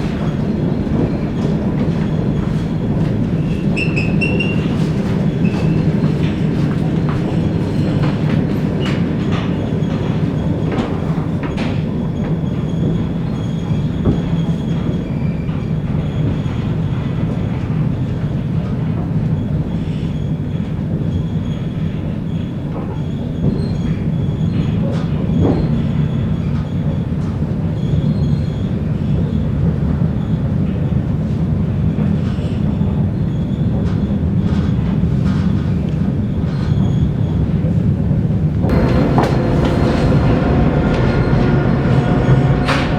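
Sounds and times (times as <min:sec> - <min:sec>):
train low rumble: 0:00.0 - 0:42.9.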